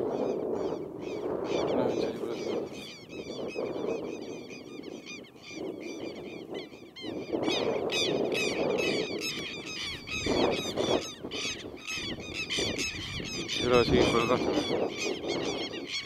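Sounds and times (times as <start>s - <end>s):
birds calling shrilly: 0.2s - 16.0s.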